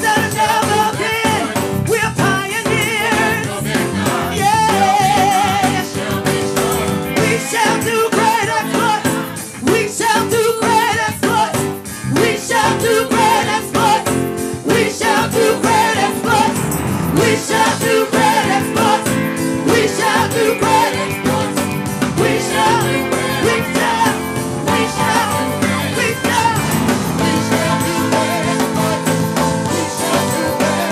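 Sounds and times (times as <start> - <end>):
band with drums: 0.0 - 30.9
person singing with vibrato: 0.0 - 30.9.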